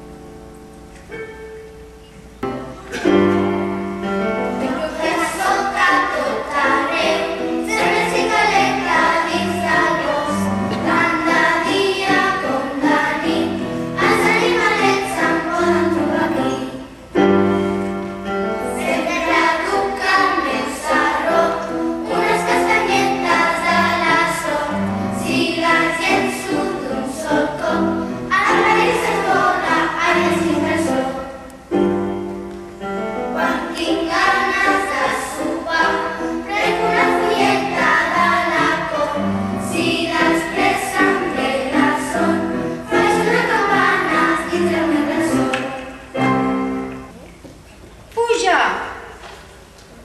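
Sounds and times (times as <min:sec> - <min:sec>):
piano accompaniment: 0:00.0 - 0:48.0
children's choir singing: 0:02.4 - 0:47.2.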